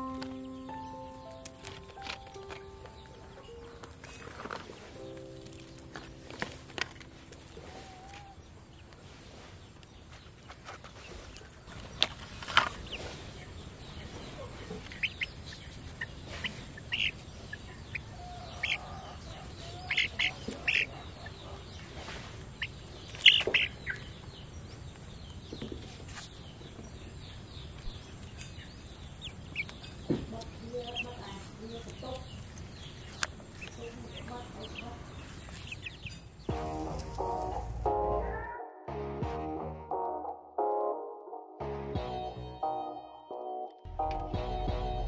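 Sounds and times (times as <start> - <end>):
birds chirping: 0.0 - 38.7.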